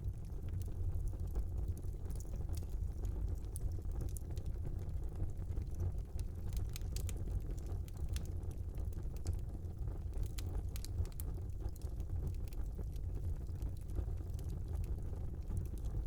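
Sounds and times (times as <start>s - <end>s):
fire rumbling: 0.0s - 16.0s
wood crackling and popping: 0.0s - 16.0s.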